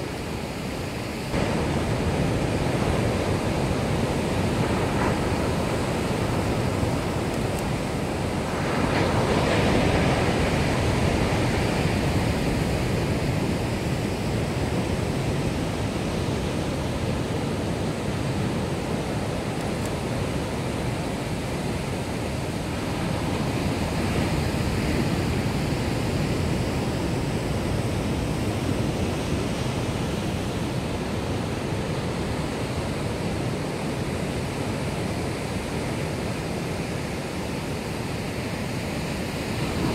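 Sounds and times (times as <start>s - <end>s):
surf crashing on rocks: 0.0s - 39.9s.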